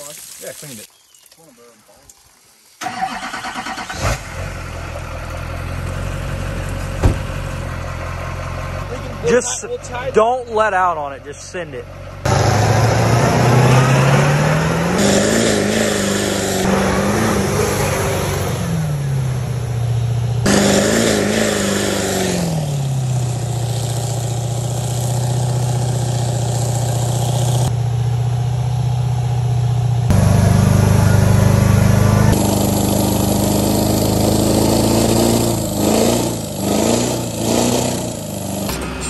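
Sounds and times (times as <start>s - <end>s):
diesel truck engine revving: 2.8s - 39.0s.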